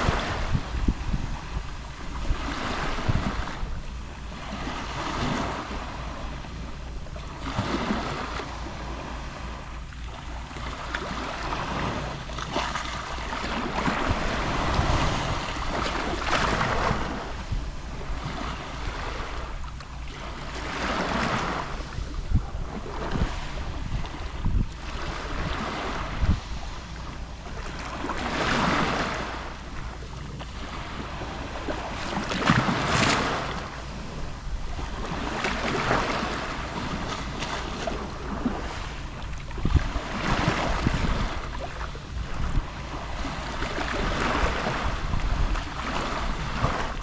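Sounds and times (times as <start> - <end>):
gentle waves lapping on shore: 0.0 - 47.0.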